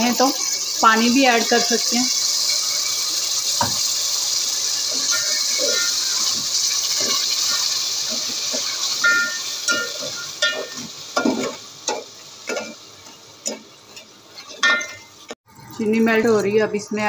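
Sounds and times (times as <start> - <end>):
sizzling hiss: 0.0 - 15.4.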